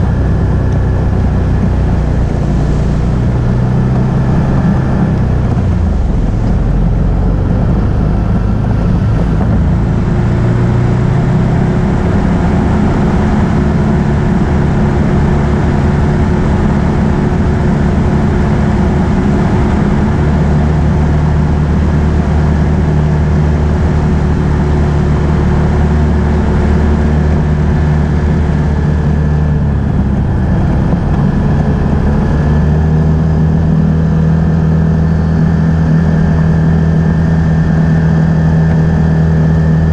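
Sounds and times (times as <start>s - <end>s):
atv engine running: 0.0s - 39.9s
steady rush of noise: 0.0s - 39.9s.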